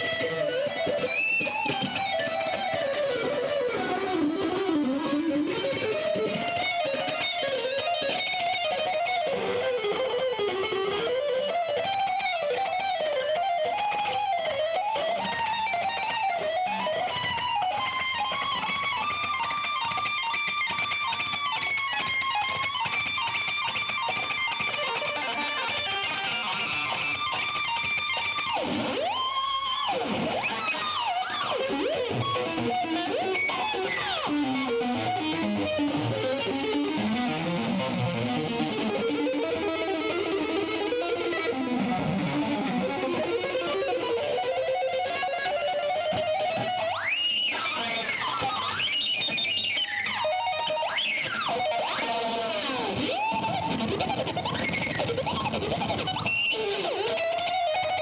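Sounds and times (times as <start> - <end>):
electric guitar lead line: 0.0 - 58.0.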